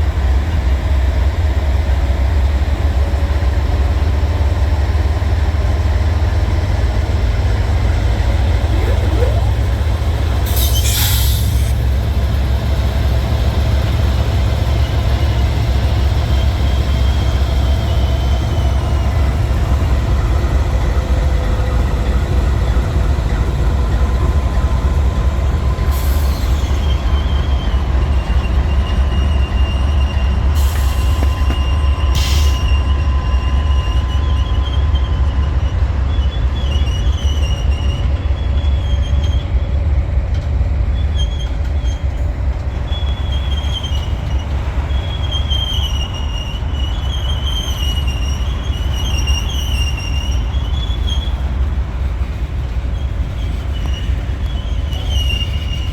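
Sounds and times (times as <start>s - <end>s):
freight train rumbling: 0.0s - 55.9s
train wheels squealing: 7.5s - 40.0s, 40.7s - 55.9s.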